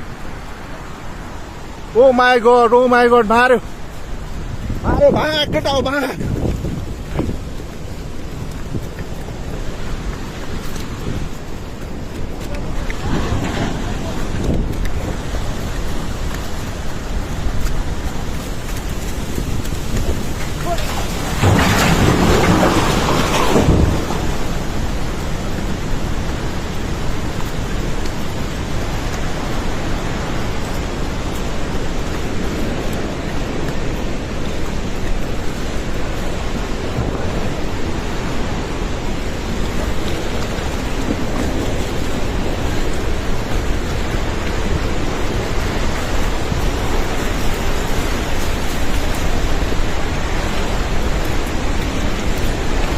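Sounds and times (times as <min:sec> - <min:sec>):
flood water rushing: 0:00.0 - 0:52.9.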